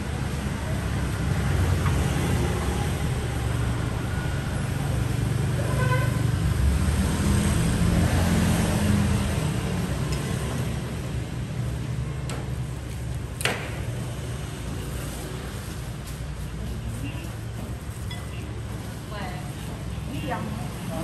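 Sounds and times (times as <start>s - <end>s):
traffic engines rumbling: 0.0s - 21.0s.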